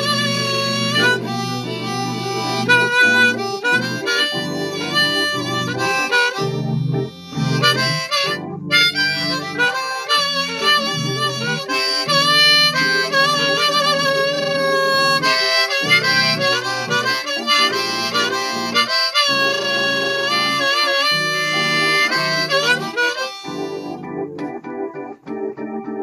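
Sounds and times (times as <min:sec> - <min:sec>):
harmonica playing blues: 0:00.0 - 0:24.4
low keyboard chords: 0:00.0 - 0:26.0.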